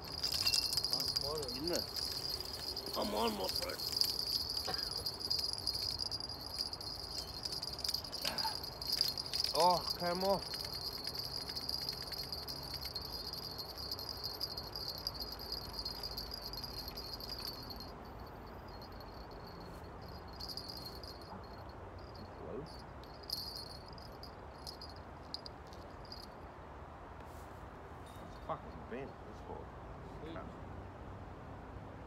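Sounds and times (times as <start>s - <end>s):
insects chirring: 0.0s - 26.3s.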